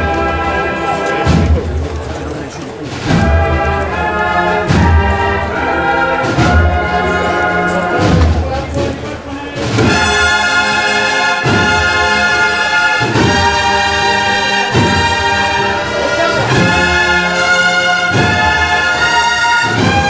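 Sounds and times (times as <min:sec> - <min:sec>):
brass band playing a march: 0:00.0 - 0:20.0
heavy drum beat: 0:01.2 - 0:02.2, 0:02.8 - 0:20.0.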